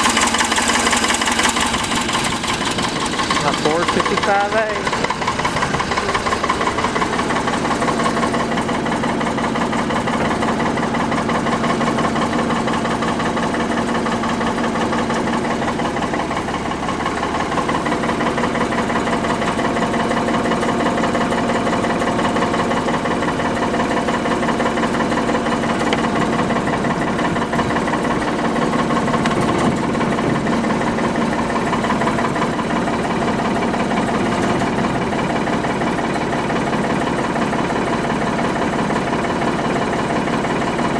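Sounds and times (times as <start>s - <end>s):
backhoe diesel engine idling: 0.0s - 40.9s.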